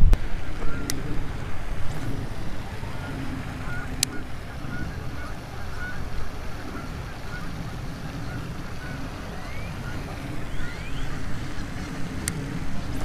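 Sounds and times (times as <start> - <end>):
wind rumble on microphone: 0.0 - 13.0
geese honking: 0.2 - 13.0.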